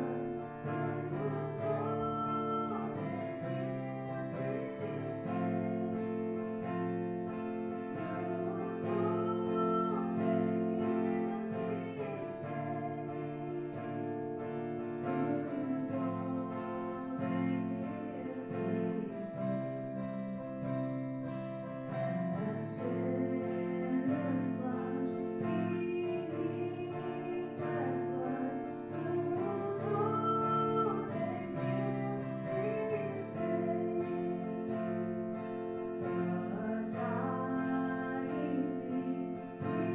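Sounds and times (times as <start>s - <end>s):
people singing worship song: 0.0s - 20.2s, 22.0s - 39.9s
strummed guitar: 0.0s - 39.9s.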